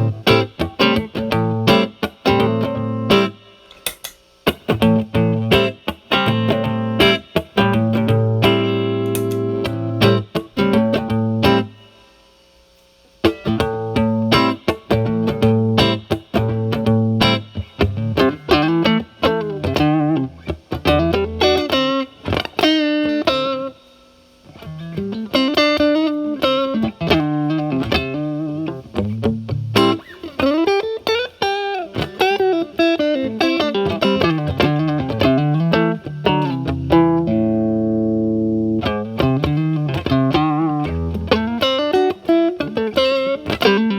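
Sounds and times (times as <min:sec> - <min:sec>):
overdriven electric guitar: 0:00.0 - 0:12.3, 0:13.2 - 0:43.9.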